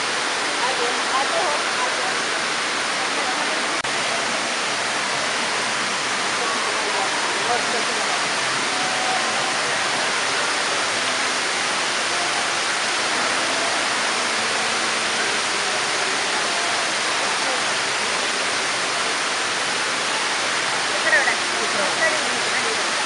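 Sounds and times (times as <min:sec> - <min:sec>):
water cascading down waterfall: 0:00.0 - 0:23.0.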